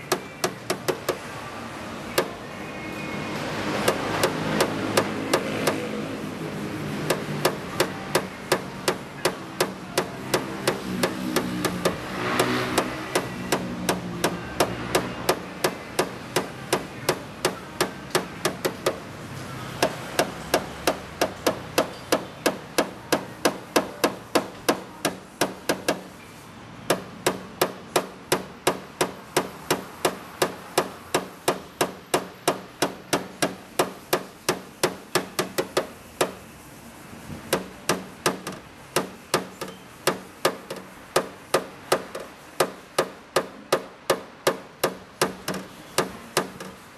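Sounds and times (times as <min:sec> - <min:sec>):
light rapid hammer taps on metal: 0:03.8 - 0:05.9, 0:07.0 - 0:19.0, 0:19.8 - 0:26.2, 0:26.9 - 0:36.4, 0:37.4 - 0:46.8.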